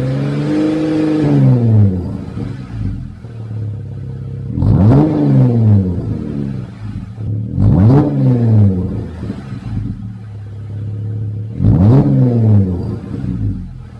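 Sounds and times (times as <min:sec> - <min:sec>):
car engine revving from idle: 0:00.0 - 0:13.9.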